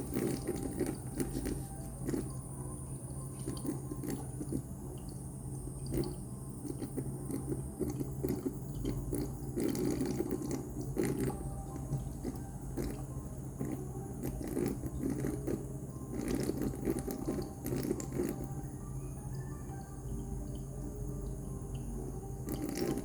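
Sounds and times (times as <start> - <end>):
humidifier humming: 0.0 - 23.0.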